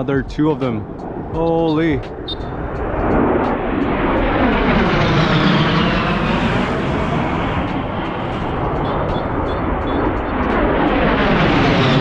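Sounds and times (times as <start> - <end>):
fighter jets roaring overhead: 0.0 - 12.0
high jet whine: 0.0 - 12.0.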